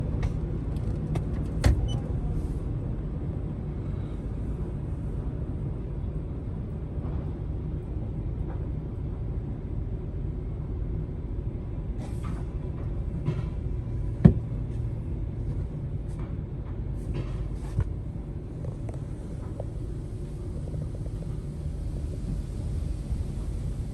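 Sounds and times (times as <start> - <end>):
car engine rumbling: 0.0 - 23.9.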